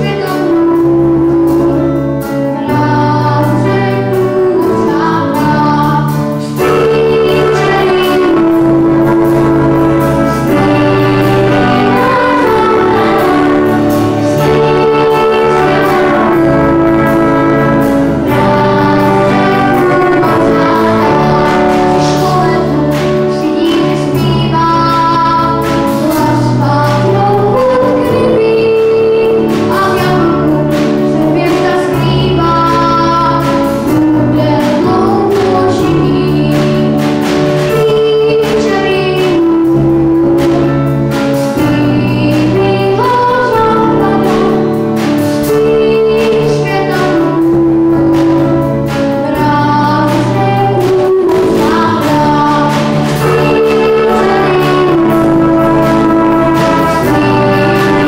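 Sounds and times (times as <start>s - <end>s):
boy soloist singing: 0.0s - 58.0s
children's choir singing: 0.0s - 58.0s
drum kit steady beat: 0.0s - 58.0s
piano: 0.0s - 58.0s
school orchestra: 0.0s - 58.0s.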